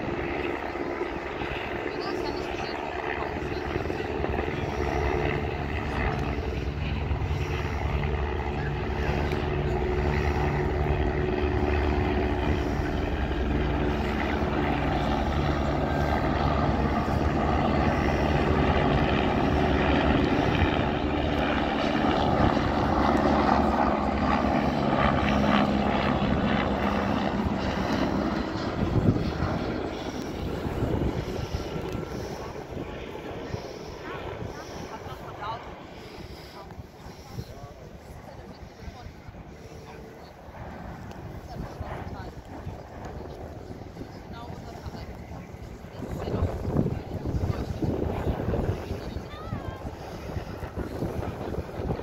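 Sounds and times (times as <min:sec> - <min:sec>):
aircraft engine drone: 0:00.0 - 0:52.0.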